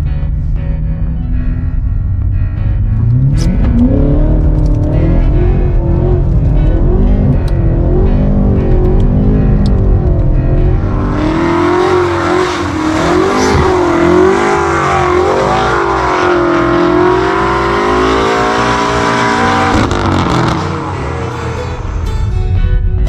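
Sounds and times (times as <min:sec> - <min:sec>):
car engine revving: 0:00.0 - 0:22.6.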